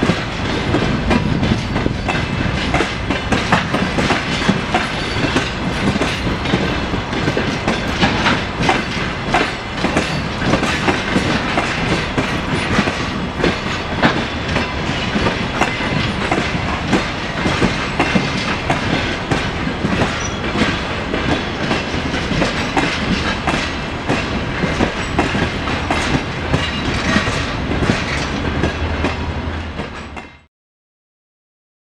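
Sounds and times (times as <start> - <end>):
train wheels clattering over rail joints: 0.0 - 30.5.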